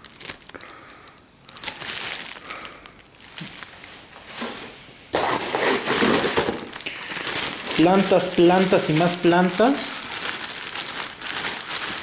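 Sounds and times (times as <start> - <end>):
plastic bag and paper crinkling: 0.0 - 12.0.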